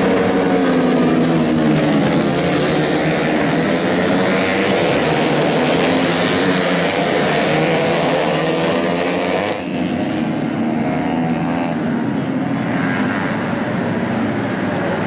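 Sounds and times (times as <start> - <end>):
motorcycles racing at full throttle: 0.0 - 15.0.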